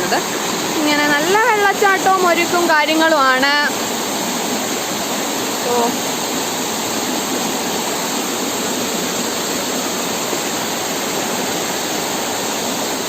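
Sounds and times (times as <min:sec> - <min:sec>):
waterfall pouring over rocks: 0:00.0 - 0:13.0.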